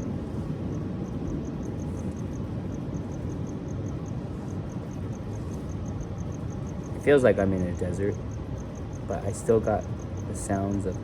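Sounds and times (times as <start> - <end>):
cricket chirping: 0.0 - 11.0
jet aircraft rumble: 0.0 - 11.0.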